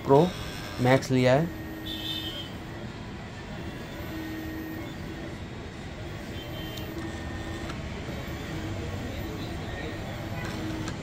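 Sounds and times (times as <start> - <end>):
plotter motors whirring: 0.0 - 11.0.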